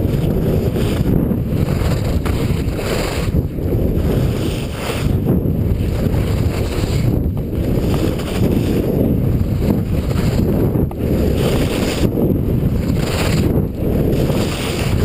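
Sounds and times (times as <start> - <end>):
skis hissing over snow: 0.0 - 15.0
wind buffeting microphone: 0.0 - 15.0.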